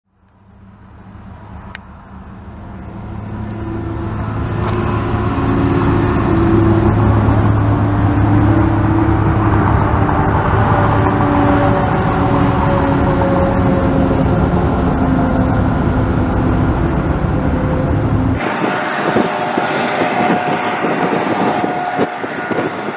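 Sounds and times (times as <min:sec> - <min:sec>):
locomotive engine drone: 0:00.1 - 0:22.9.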